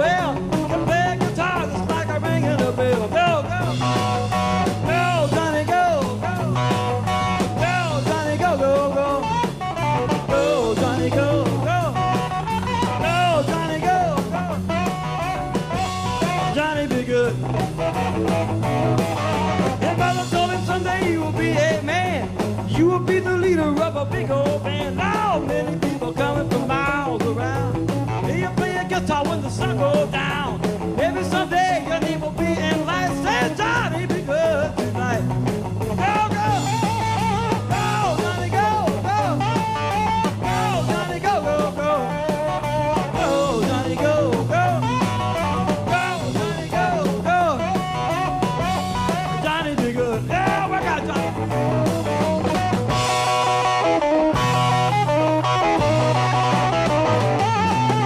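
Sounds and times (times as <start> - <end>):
man singing: 0.0 - 18.4, 19.5 - 52.8
drums: 0.0 - 58.0
electric bass line: 0.0 - 58.0
electric guitar with bending notes: 0.0 - 58.0.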